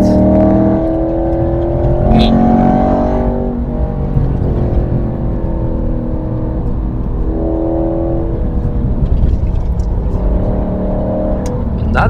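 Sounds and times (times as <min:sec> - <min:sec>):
car engine pulling hard: 0:00.0 - 0:12.0
low road rumble: 0:00.0 - 0:12.0.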